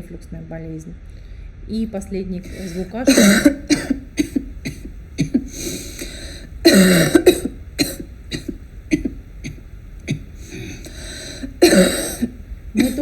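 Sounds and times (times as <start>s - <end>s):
person coughing: 2.5s - 13.0s
throat-clearing: 2.5s - 13.0s.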